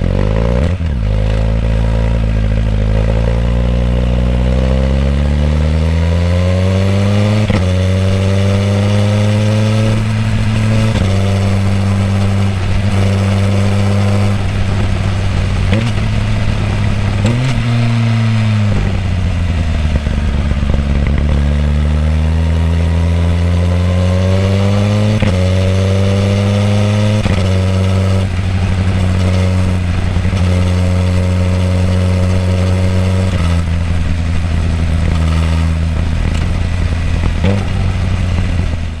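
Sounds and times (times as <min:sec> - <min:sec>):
motorcycle exhaust accelerating: 0:00.0 - 0:39.0.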